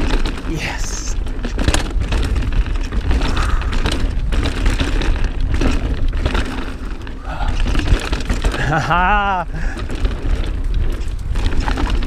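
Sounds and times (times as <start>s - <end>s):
bike rattling: 0.0s - 12.0s
bike tyres rolling on dirt: 0.0s - 12.0s
wind rumble on microphone: 0.0s - 12.0s.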